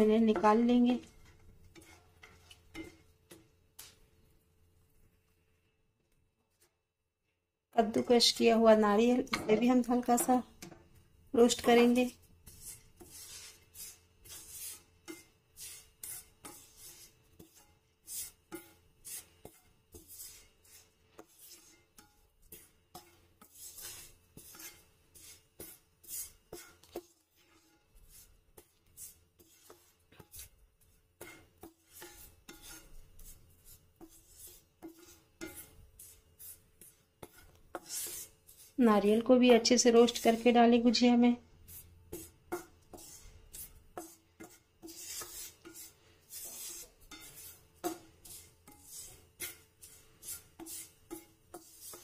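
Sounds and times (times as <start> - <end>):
wooden spatula scraping a pan: 0.0 - 4.3, 7.8 - 52.0.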